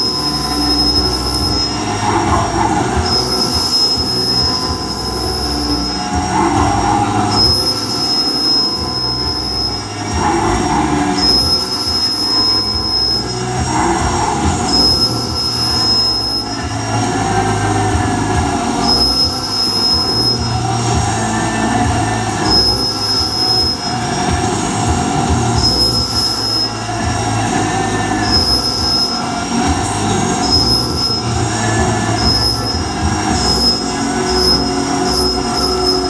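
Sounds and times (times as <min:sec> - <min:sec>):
high-pitched squeal: 0:00.0 - 0:36.0
milling machine cutting steel: 0:00.0 - 0:36.0.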